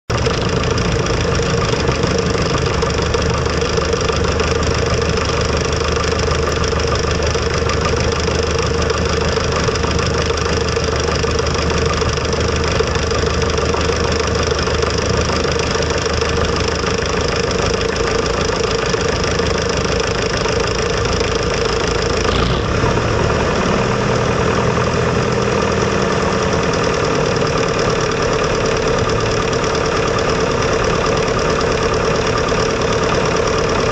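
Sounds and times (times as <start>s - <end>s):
propeller engine drone: 0.1s - 33.9s.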